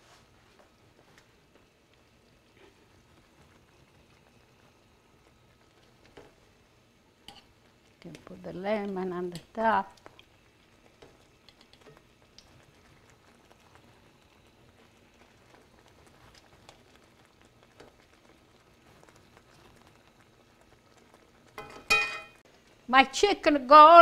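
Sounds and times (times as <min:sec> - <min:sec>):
sauce simmering: 0:00.0 - 0:24.0.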